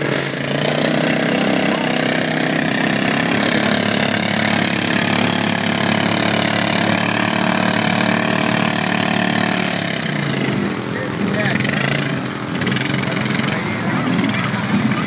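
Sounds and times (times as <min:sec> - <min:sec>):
atv engine running: 0:00.0 - 0:15.0
wheel spinning in mud: 0:00.0 - 0:15.0.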